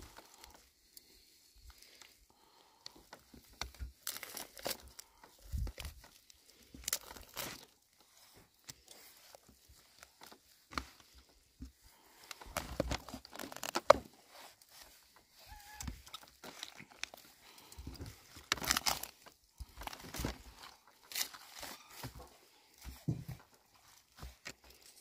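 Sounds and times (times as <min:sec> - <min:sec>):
food tearing and crunching: 0:00.0 - 0:25.0.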